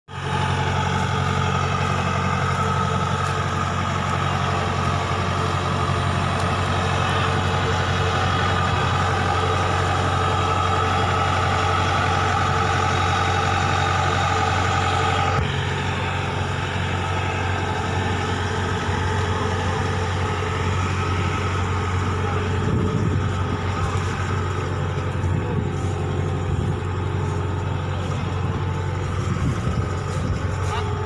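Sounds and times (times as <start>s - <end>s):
diesel engine idling: 0.1s - 31.0s
high whine: 0.1s - 31.0s.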